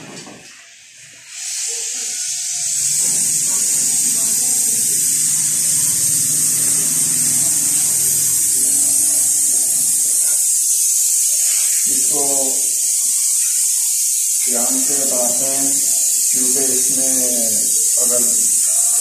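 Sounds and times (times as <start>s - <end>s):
welding torch flame hissing: 0.2s - 19.0s.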